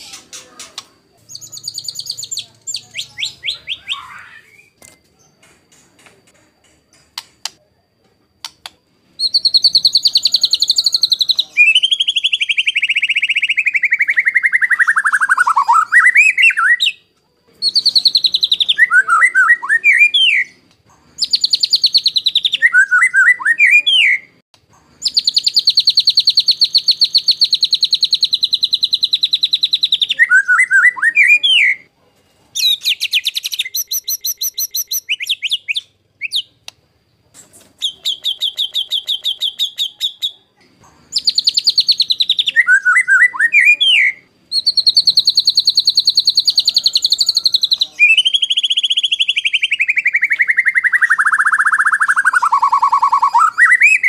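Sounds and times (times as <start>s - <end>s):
bird whistled phrases: 0.0s - 4.8s, 9.2s - 20.6s, 21.2s - 24.4s, 25.0s - 31.9s, 32.6s - 36.5s, 37.8s - 40.5s, 41.1s - 54.0s.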